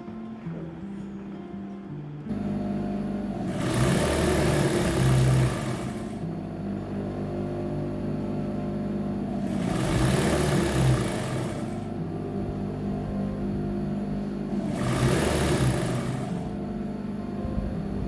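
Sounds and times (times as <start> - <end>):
electric sewing machine stitching: 2.3 - 18.0.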